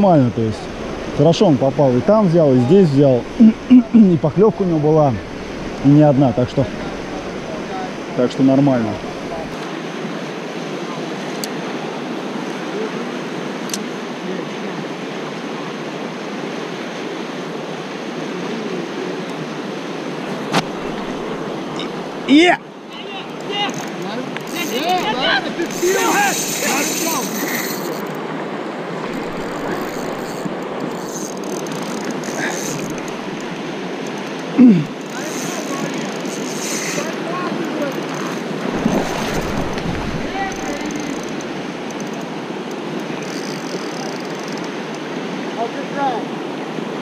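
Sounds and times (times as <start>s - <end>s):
river rapids rushing: 0.0s - 47.0s.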